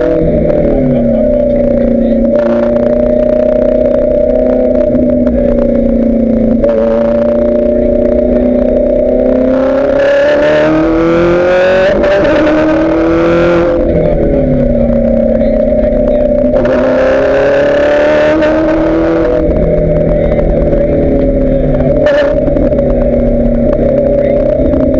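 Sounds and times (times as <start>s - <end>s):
race car engine accelerating: 0.0s - 24.9s.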